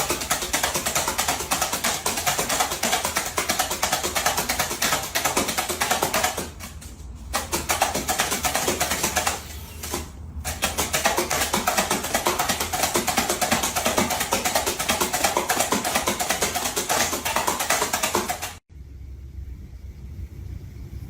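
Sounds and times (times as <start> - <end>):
music with fast percussion beat: 0.0 - 18.6.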